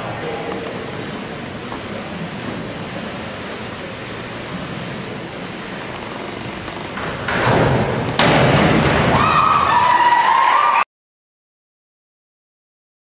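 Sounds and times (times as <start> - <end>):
indoor hall background hiss: 0.0 - 10.8.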